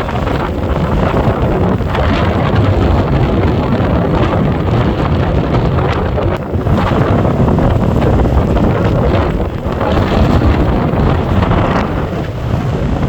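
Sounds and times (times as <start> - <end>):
stormy surf rumbling: 0.0 - 13.0
wind buffeting microphone: 0.0 - 13.0.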